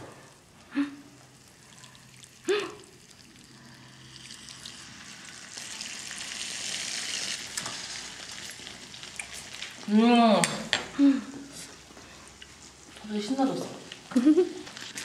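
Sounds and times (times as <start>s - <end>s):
sauce sizzling in frying pan: 1.2s - 10.4s, 11.7s - 15.0s.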